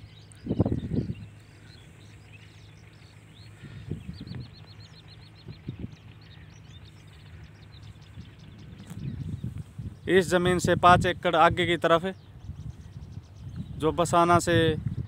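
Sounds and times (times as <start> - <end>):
bird chirping: 0.0 - 14.4.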